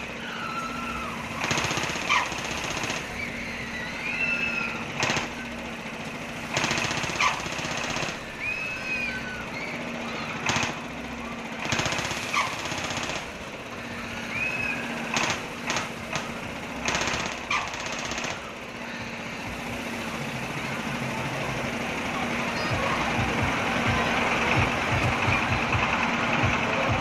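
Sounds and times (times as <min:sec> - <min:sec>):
diesel engine knocking: 0:00.0 - 0:27.0.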